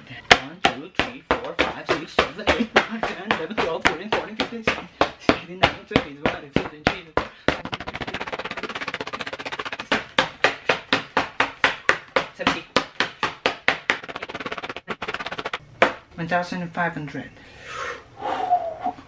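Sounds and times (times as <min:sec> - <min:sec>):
hand slapping paper: 0:00.3 - 0:16.0.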